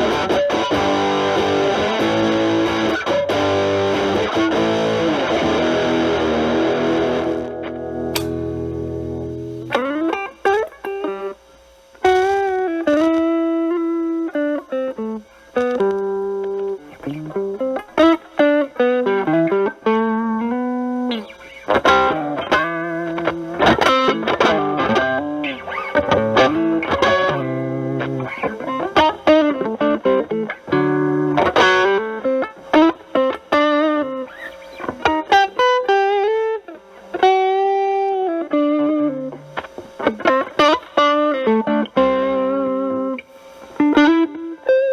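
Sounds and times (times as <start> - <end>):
distorted electric guitar blues lead: 0.0 - 44.9.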